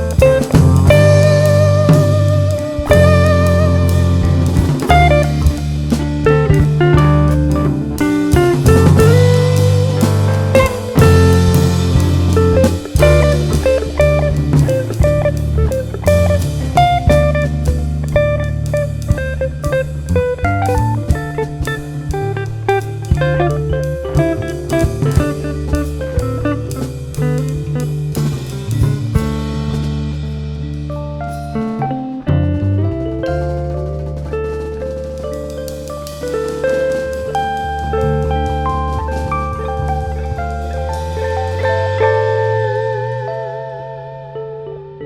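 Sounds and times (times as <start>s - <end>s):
drum kit beat: 0.0s - 43.3s
bass guitar: 0.0s - 45.0s
guitar: 0.0s - 45.0s.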